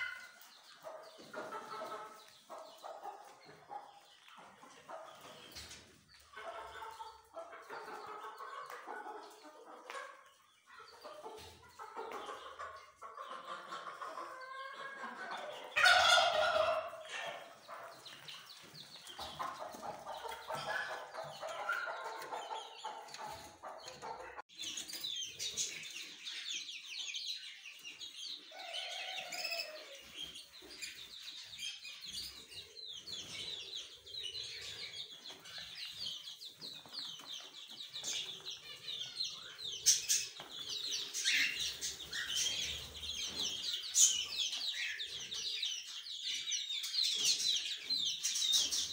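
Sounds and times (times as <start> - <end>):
chickens clucking: 0.0 - 48.9
chicks peeping shrilly: 0.0 - 48.9.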